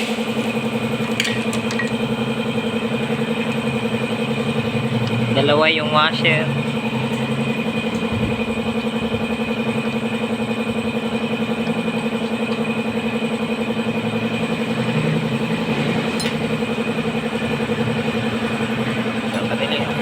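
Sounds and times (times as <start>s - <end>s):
motor humming steadily: 0.0s - 20.0s.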